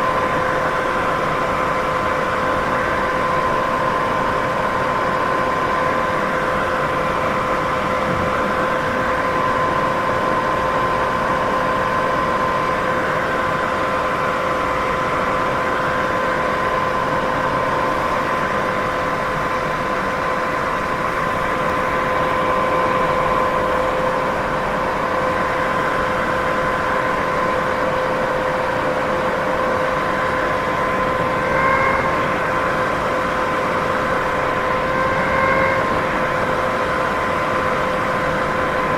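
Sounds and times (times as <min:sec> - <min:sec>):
constant hum: 0:00.0 - 0:38.9.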